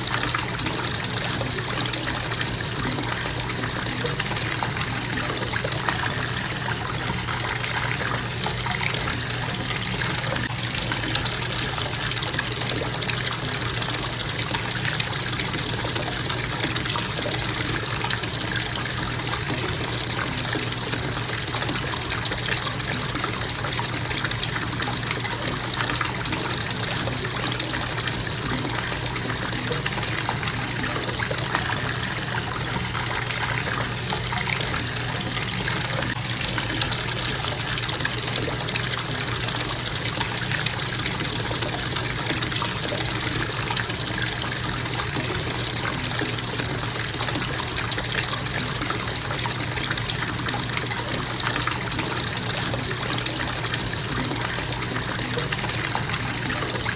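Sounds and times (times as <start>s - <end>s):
faucet running into bathtub: 0.0s - 56.9s.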